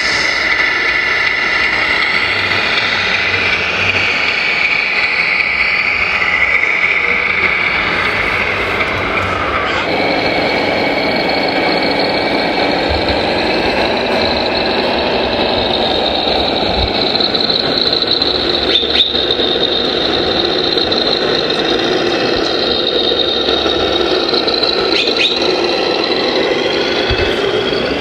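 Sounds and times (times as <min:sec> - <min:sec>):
high motor whine: 0:00.0 - 0:28.0
mechanical running noise: 0:00.0 - 0:28.0.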